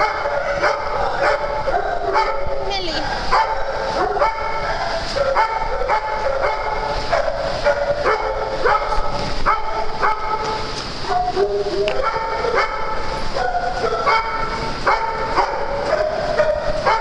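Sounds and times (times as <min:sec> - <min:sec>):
puppies yapping and whining: 0:00.0 - 0:17.0.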